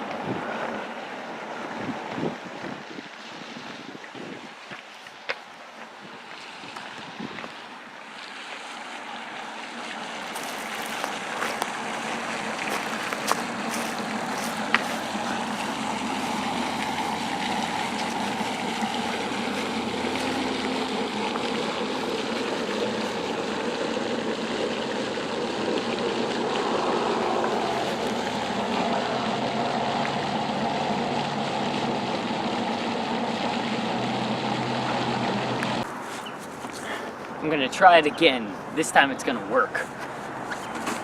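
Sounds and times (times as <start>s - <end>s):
creek water flowing: 0.0s - 41.0s.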